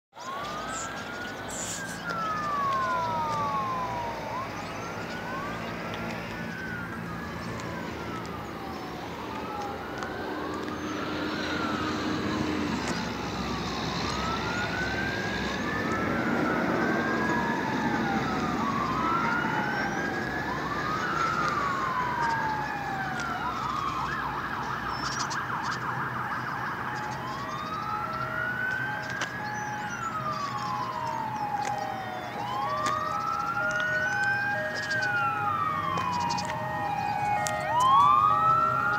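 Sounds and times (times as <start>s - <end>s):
siren wailing and warbling: 0.2s - 38.9s.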